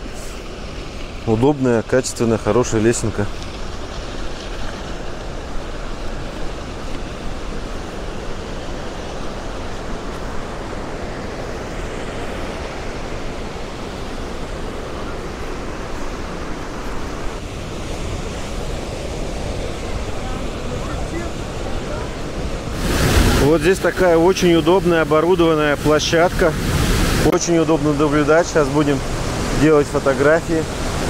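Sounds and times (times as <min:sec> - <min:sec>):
waterfall rushing water: 0:05.2 - 0:31.0.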